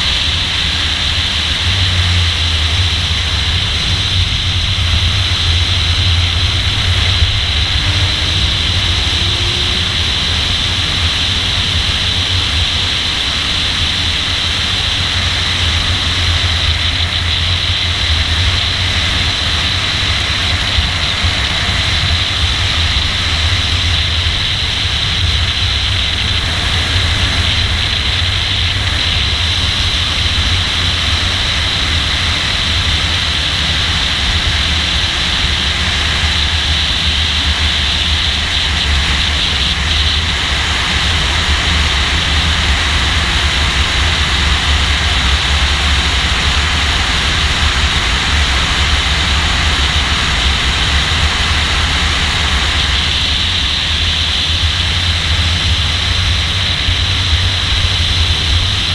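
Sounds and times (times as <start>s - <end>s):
wind and road noise rumble: 0.0s - 58.9s.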